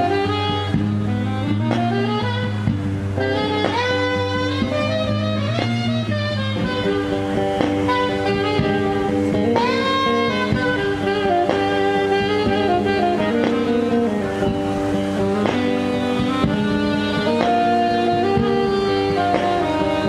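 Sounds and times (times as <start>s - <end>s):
guitar: 0.0s - 20.0s
saxophone: 0.0s - 20.0s.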